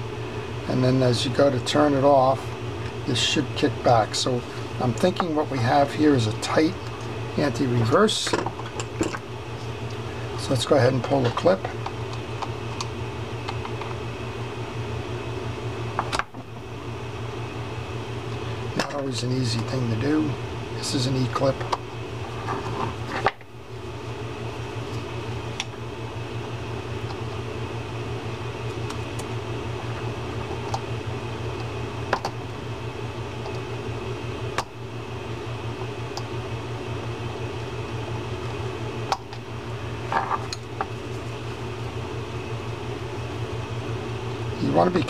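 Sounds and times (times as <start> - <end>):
low mechanical room hum: 0.0 - 45.0.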